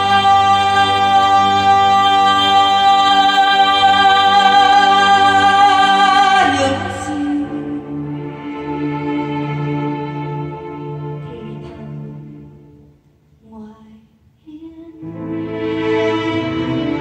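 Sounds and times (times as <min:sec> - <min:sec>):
soft musical accompaniment: 0:00.0 - 0:17.0.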